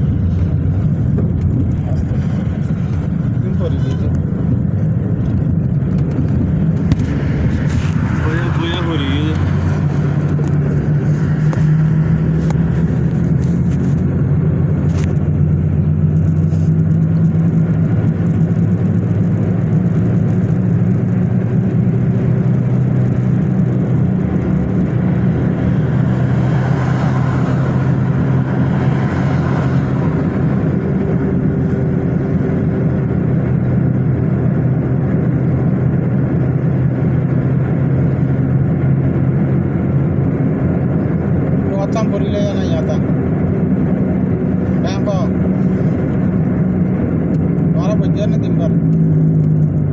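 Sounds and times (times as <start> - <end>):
car engine and road noise: 0.0 - 49.9.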